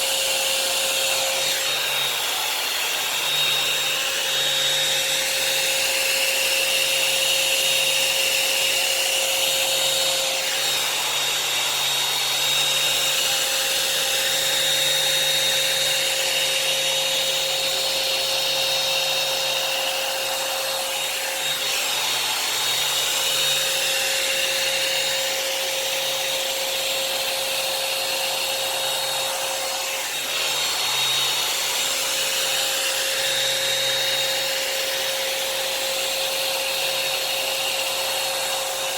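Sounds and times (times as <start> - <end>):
hot-air brush fan whir: 0.0 - 38.9.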